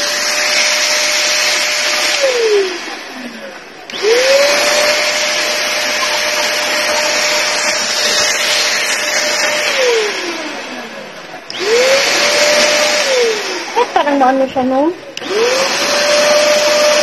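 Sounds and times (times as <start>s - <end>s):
vacuum winding down: 0.0s - 14.2s, 15.1s - 17.0s
handheld vacuum cleaner running: 0.0s - 17.0s.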